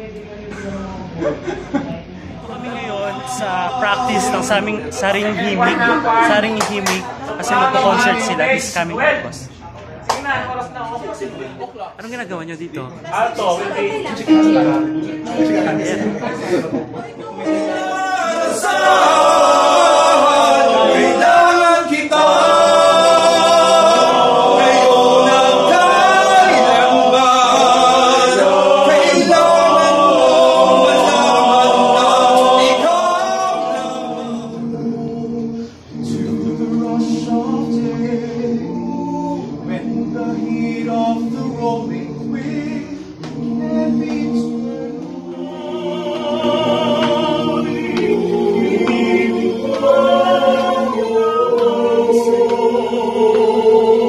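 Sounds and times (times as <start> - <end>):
choir singing in harmony: 2.4 - 8.9, 13.2 - 54.0.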